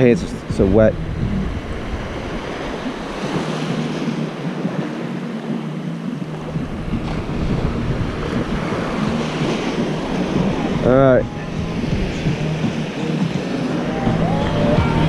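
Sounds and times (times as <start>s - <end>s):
small waves washing onto sand: 0.0s - 15.0s
wind rumbling on microphone: 0.0s - 15.0s.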